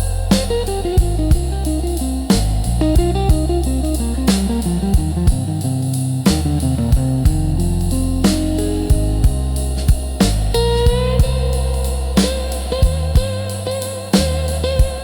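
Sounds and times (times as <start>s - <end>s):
bass and drums: 0.0s - 15.0s
blues guitar single-note lines: 0.0s - 15.0s.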